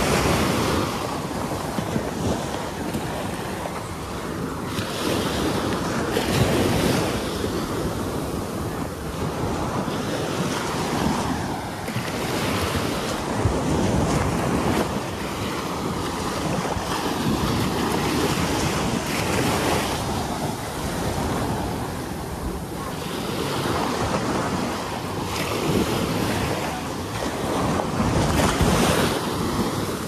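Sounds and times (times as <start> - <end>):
ocean waves breaking on beach: 0.0 - 30.0
wind buffeting microphone: 0.0 - 30.0.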